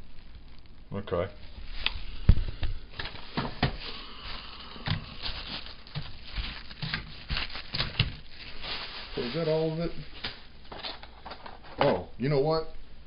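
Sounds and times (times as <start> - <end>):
rustling: 0.0 - 11.6.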